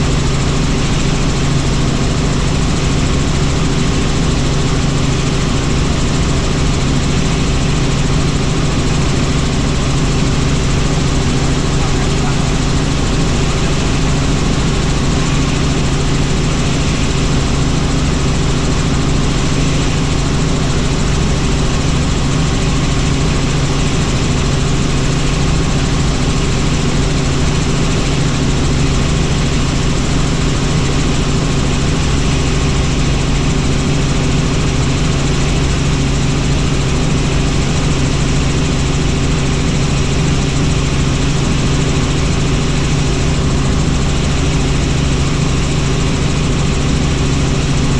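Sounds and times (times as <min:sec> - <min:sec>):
helicopter engine and rotor drone: 0:00.0 - 0:47.9.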